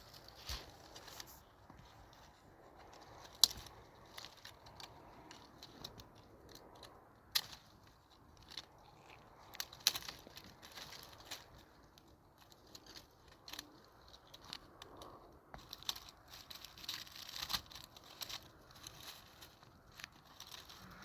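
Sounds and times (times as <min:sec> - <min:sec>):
faint rustling: 0:00.0 - 0:21.0.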